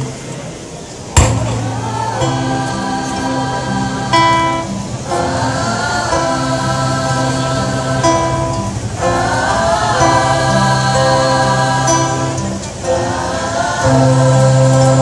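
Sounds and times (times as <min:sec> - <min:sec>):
acoustic guitar: 0:00.0 - 0:15.0
choir singing sustained phrases: 0:00.0 - 0:15.0.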